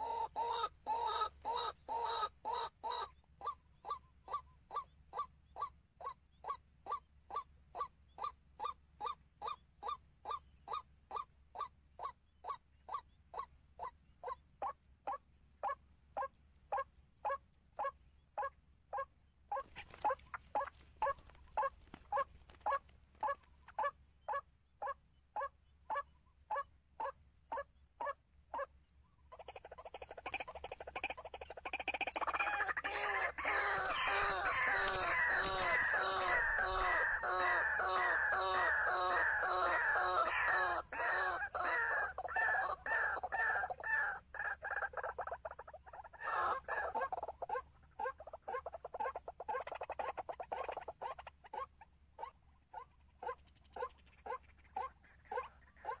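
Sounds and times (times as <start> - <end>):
birds chattering rapidly: 0.0 - 26.2, 27.5 - 51.6
birds calling: 0.0 - 56.0.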